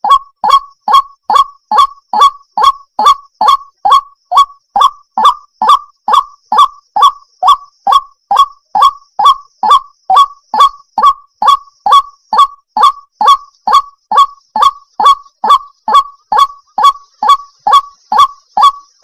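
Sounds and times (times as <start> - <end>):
waterhen calling: 0.0 - 19.0.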